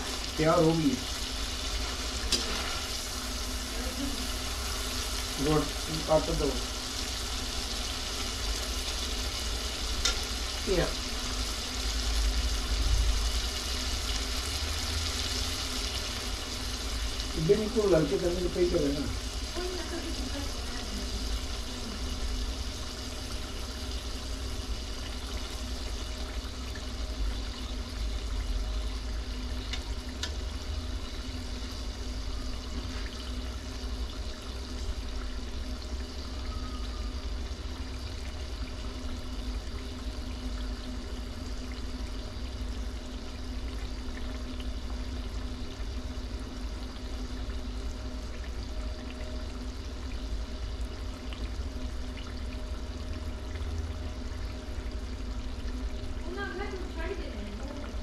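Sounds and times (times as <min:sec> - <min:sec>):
liver sizzling in a pan: 0:00.0 - 0:58.0.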